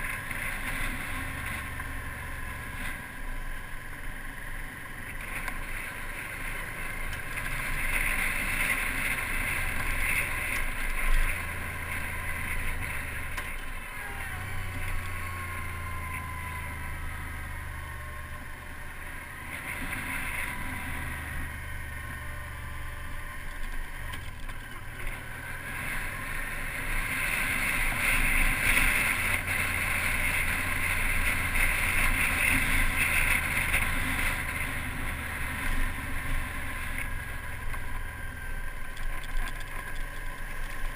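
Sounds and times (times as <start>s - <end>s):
motorcycle engine low drone: 0.0s - 40.9s.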